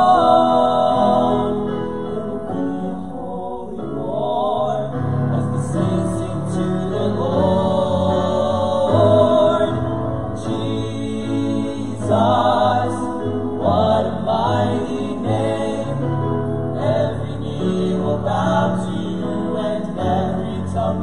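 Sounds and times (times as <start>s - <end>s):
male vocal quartet singing in harmony: 0.0s - 21.0s.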